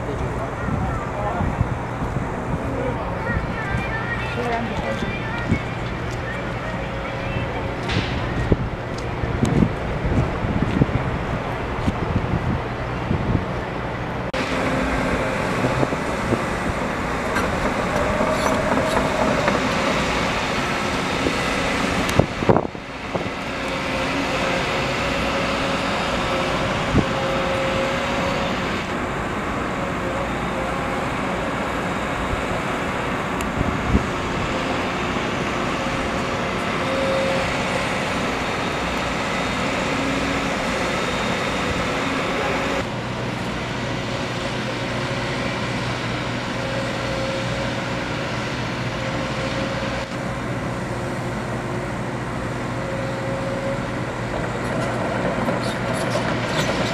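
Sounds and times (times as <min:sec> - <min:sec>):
diesel construction machinery running: 0:00.0 - 0:56.9.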